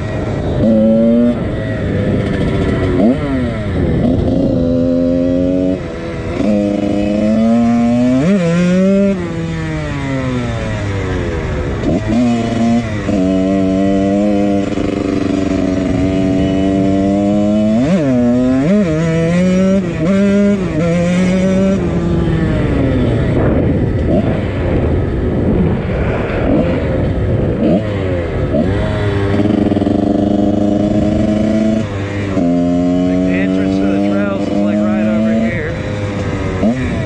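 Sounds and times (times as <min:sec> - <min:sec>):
two-stroke dirt bike engine: 0:00.0 - 0:37.0.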